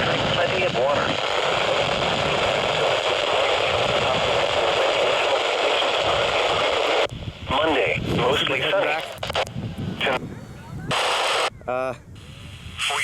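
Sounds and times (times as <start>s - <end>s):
person speaking on radio: 0.0s - 13.0s
radio static hiss: 0.0s - 13.0s.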